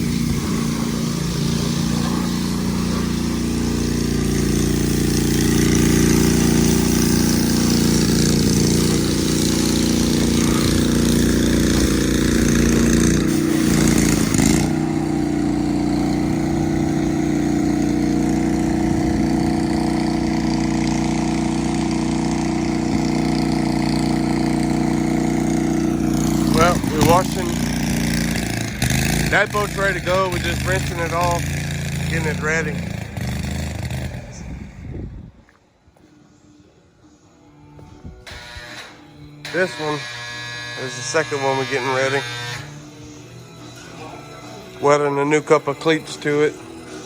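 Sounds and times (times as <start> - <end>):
small engine running: 0.0 - 35.3, 38.3 - 47.0.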